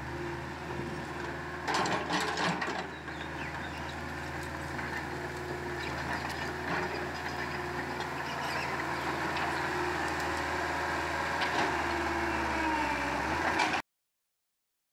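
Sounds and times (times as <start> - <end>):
excavator diesel engine running: 0.0 - 13.8.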